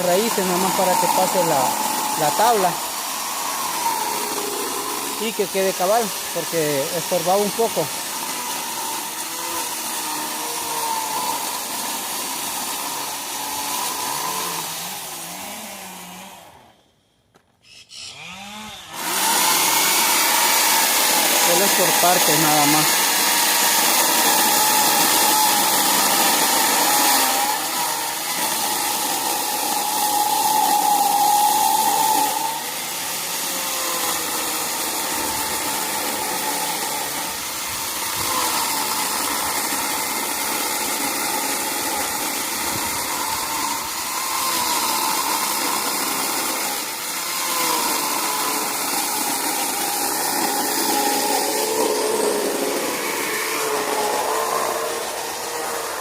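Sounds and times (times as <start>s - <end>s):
power tool cutting roots: 0.0s - 56.0s.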